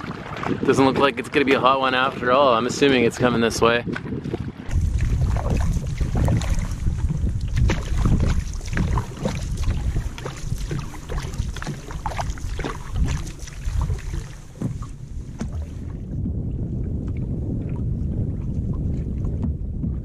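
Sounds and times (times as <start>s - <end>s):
waves slapping against canoe: 0.0s - 20.0s
wind buffeting microphone: 0.0s - 20.0s.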